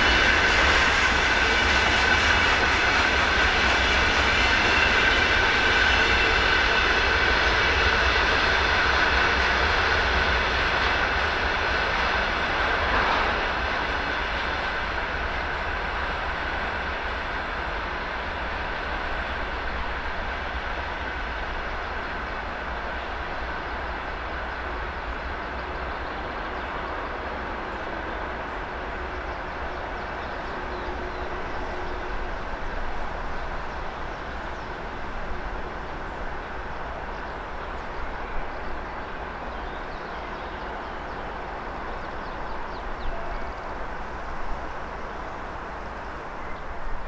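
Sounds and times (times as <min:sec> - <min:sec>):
train wheels rolling on rails: 0:00.0 - 0:47.0.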